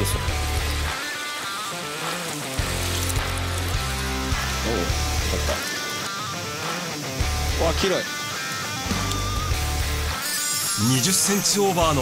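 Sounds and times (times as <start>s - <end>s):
background music with bass and beat: 0.0s - 12.0s.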